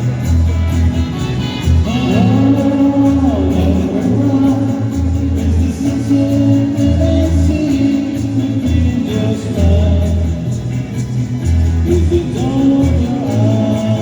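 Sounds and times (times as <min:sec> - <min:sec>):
bass line: 0:00.0 - 0:14.0
guitar: 0:00.0 - 0:14.0
live band music: 0:00.0 - 0:14.0.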